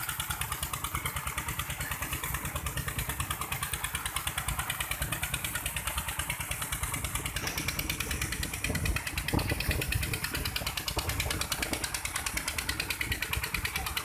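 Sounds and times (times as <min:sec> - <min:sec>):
diesel engine chugging: 0:00.0 - 0:14.0
water gushing from pipe: 0:00.0 - 0:14.0.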